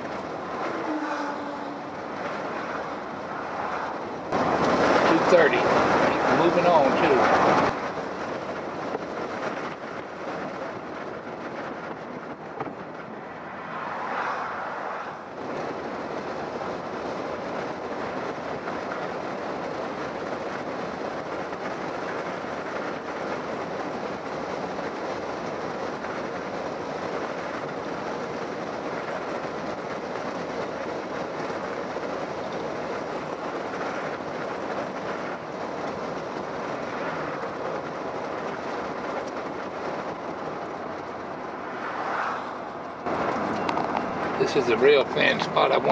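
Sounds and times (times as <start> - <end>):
car driving heard from inside: 0.0 - 45.9.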